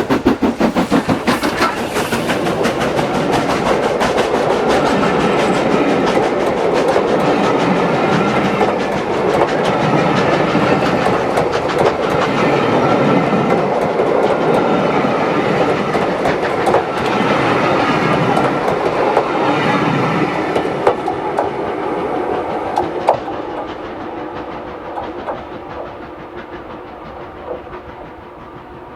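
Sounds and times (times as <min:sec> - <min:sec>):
train rushing along track: 0:00.0 - 0:28.9
wheels clicking over rail joints: 0:00.0 - 0:28.9.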